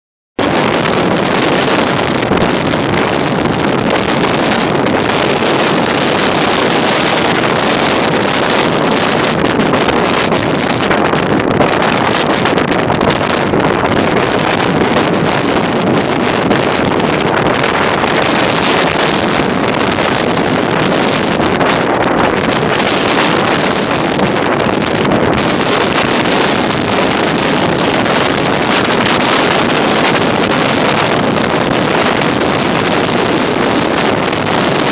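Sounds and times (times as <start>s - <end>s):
strong wind on microphone: 0.3s - 34.9s.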